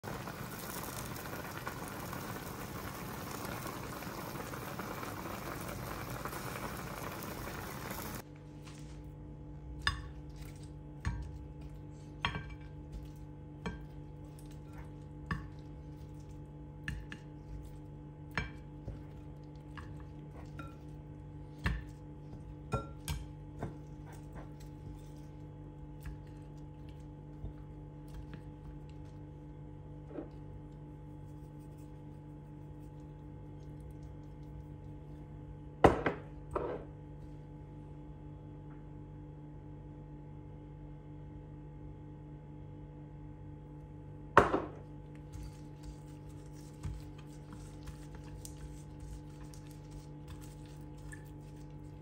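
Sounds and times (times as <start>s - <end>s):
broth boiling in a pan: 0.0s - 8.3s, 9.6s - 36.7s, 44.4s - 52.0s
low steady hum: 0.0s - 52.0s.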